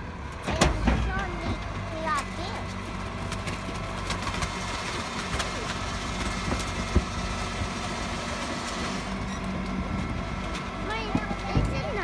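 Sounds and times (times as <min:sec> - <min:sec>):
garbage truck engine running: 0:00.0 - 0:12.0
hydraulic packer blade compacting: 0:00.2 - 0:12.0.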